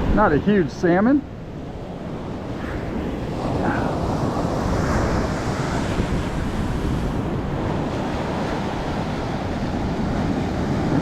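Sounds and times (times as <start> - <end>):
ocean surf breaking: 0.0 - 11.0
wind rumbling on microphone: 0.0 - 11.0.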